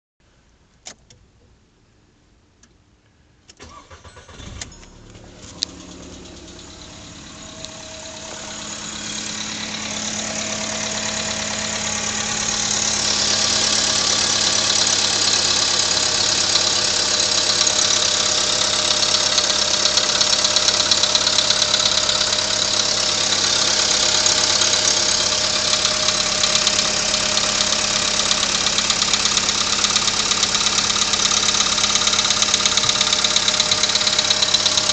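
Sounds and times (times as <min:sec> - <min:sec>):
starter motor cranking: 0:03.6 - 0:34.9
car engine idling with knock: 0:04.6 - 0:34.9.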